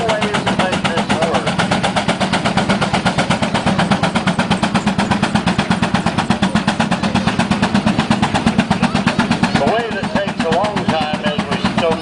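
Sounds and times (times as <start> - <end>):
steam engine exhaust chuffing: 0.0 - 12.0.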